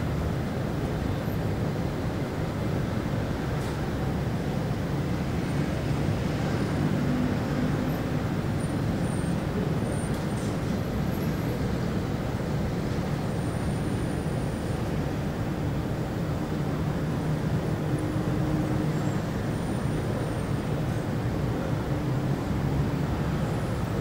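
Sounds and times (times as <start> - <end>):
rumble of passing vehicles: 0.0 - 24.0.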